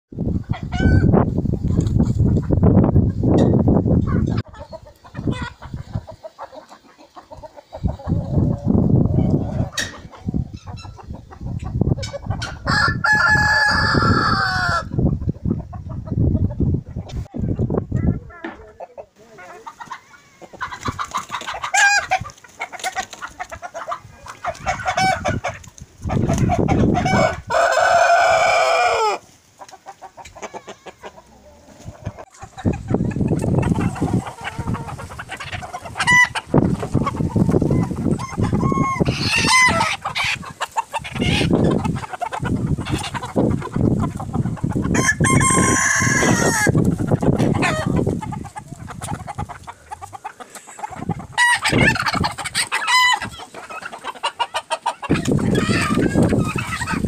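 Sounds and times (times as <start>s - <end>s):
chickens clucking: 0.2s - 57.0s
roosters crowing: 0.4s - 1.3s, 4.1s - 15.1s, 19.1s - 57.0s.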